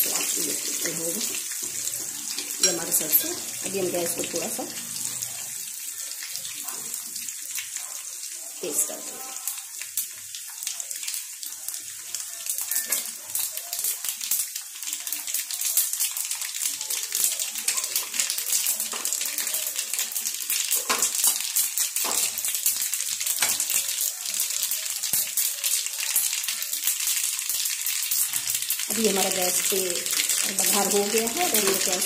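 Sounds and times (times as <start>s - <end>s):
spices sizzling in hot oil: 0.0s - 32.0s.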